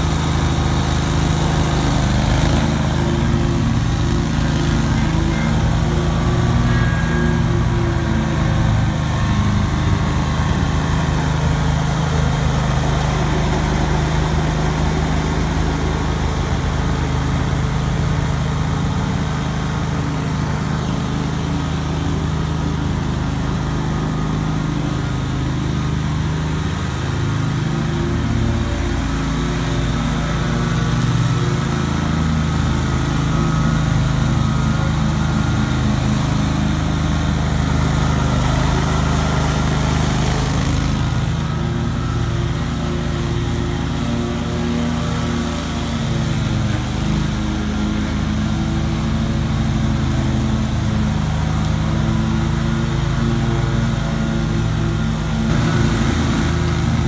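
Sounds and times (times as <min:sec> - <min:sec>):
mower engine running under load: 0:00.0 - 0:57.0.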